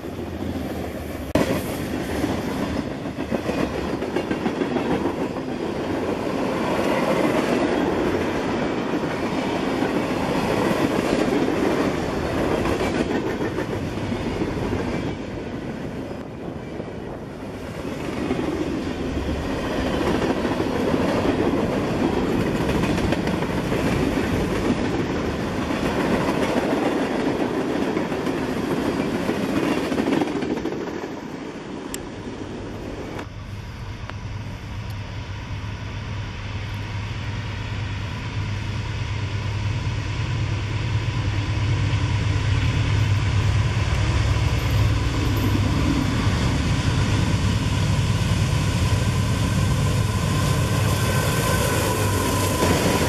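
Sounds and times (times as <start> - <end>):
diesel locomotives droning: 0.0 - 27.5, 28.8 - 53.0
freight train rumbling past: 0.0 - 53.0.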